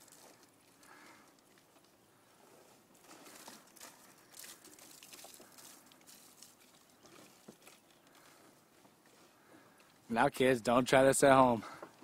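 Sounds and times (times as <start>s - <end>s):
faint crackling and ticks: 0.0s - 10.1s.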